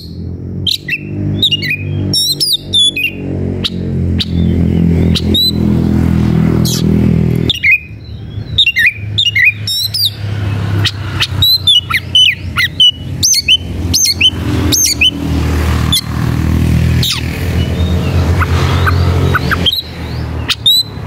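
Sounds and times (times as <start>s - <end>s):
bird chirping and squawking: 0.0s - 21.0s
low engine hum: 0.0s - 21.0s.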